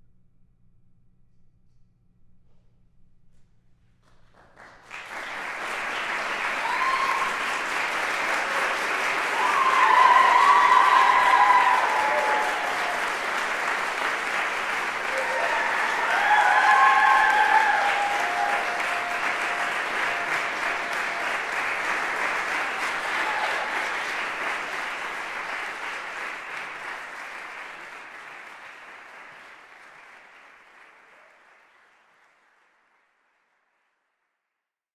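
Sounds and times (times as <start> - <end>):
audience applauding: 4.2 - 34.1.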